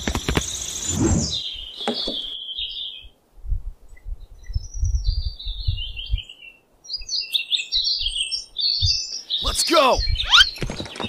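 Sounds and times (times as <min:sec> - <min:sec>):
small birds chirping: 0:00.0 - 0:03.2, 0:03.9 - 0:11.0.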